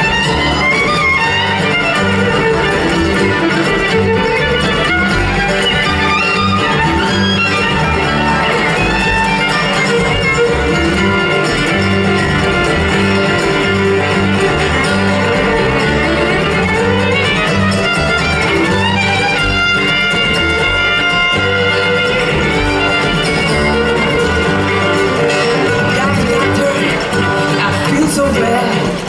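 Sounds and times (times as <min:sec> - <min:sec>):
bass line: 0:00.0 - 0:29.0
country band playing: 0:00.0 - 0:29.0
fiddle: 0:00.0 - 0:29.0.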